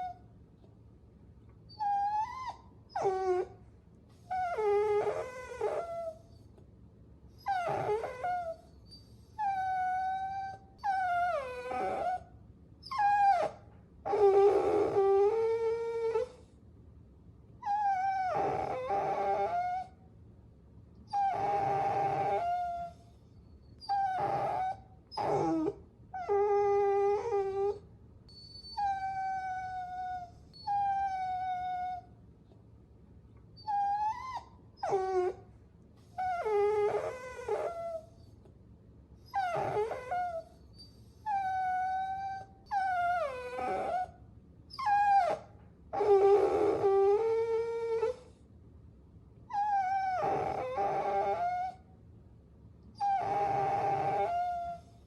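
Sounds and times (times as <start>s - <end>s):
puppies whining: 1.7s - 3.6s, 4.2s - 6.5s, 7.4s - 16.5s, 17.6s - 19.9s, 21.1s - 32.1s, 33.6s - 35.4s, 36.0s - 38.3s, 39.2s - 48.4s, 49.5s - 51.8s, 53.0s - 55.0s.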